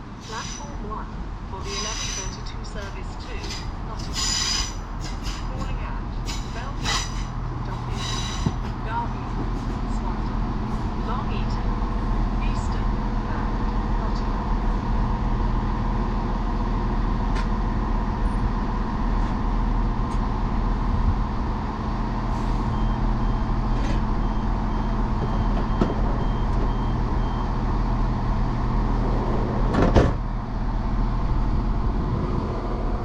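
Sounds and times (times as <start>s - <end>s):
diesel train engine idling: 0.0s - 33.0s.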